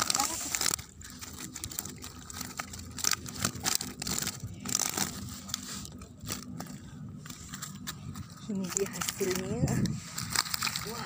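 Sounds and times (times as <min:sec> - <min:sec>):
rustling and crinkling handling noise: 0:00.0 - 0:11.0.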